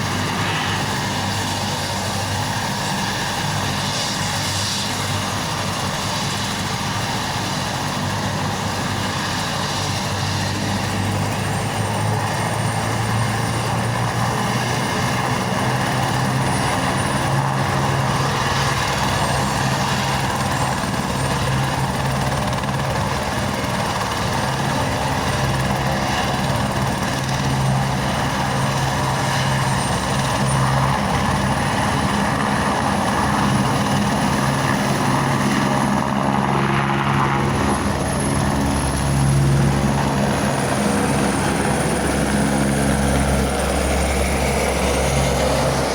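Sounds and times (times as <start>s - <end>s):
helicopter engine and rotor hum: 0.0s - 45.9s.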